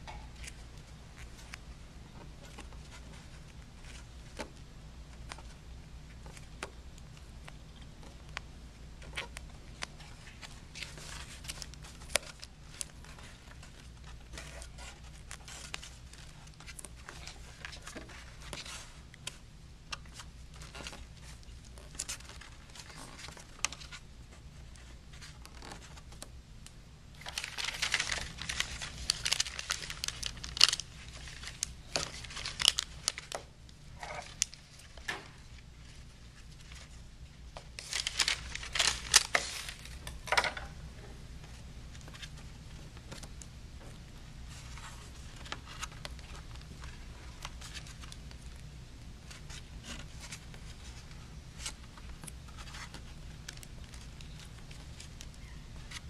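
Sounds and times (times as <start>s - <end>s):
electrical tape crackling: 0.0s - 56.0s
steady low hum: 0.0s - 56.0s.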